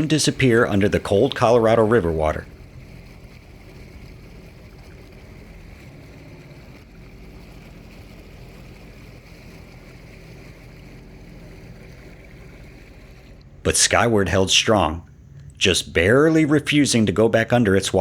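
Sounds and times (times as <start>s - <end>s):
water noise: 0.0s - 18.0s
wind: 0.0s - 18.0s.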